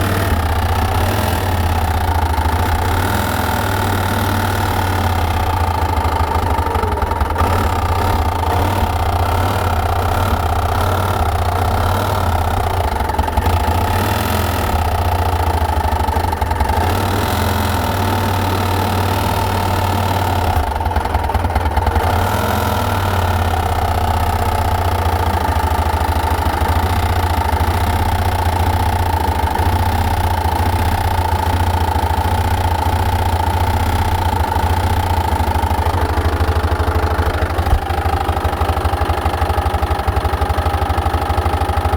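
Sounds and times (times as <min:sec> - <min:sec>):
engine idling: 0:00.0 - 0:41.9.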